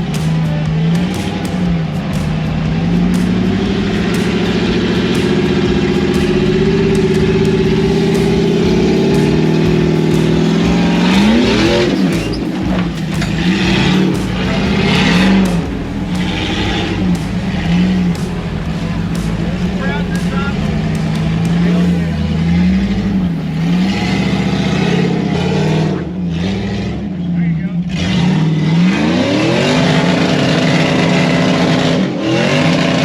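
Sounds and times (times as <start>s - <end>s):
engine working under load: 0.0s - 33.0s.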